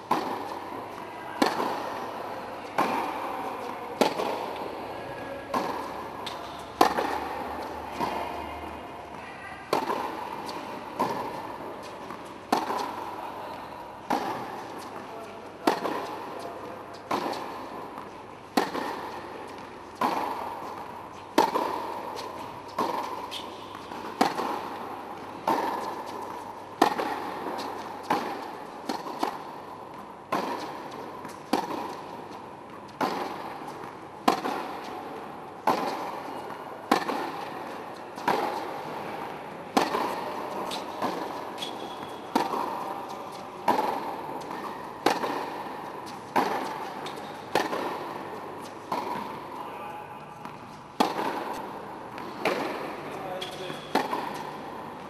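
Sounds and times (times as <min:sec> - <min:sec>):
tennis balls struck with racket: 0:00.0 - 0:55.0.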